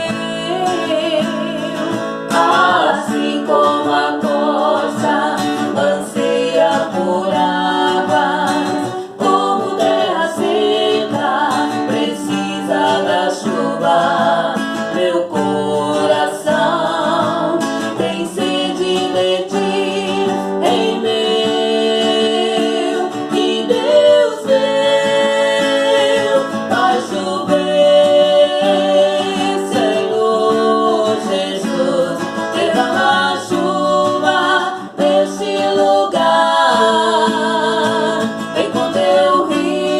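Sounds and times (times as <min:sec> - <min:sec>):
guitar accompaniment: 0:00.0 - 0:39.9
man and woman singing: 0:00.0 - 0:39.9.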